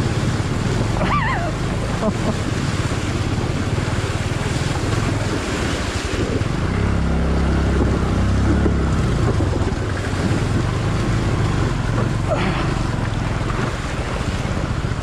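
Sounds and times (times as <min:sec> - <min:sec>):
water rushing and splashing: 0:00.0 - 0:15.0
motorcycle engine under load: 0:01.6 - 0:15.0.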